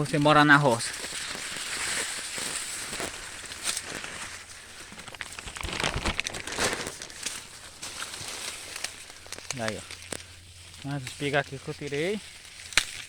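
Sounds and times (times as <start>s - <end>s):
corn stalks snapping: 0.0s - 13.0s
dry corn plants rustling: 0.0s - 13.0s.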